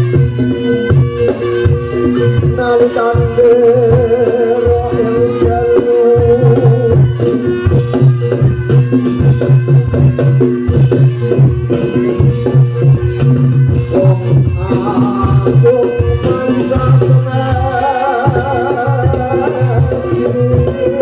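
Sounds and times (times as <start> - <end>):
hand drum strokes: 0.0 - 21.0
metal percussion tones: 0.0 - 21.0.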